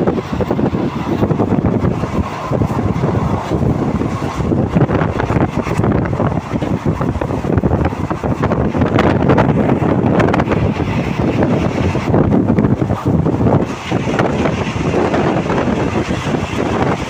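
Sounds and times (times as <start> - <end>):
train running noise: 0.0 - 17.0
wheel clacks on track: 0.0 - 17.0
wind rushing over microphone: 0.0 - 17.0.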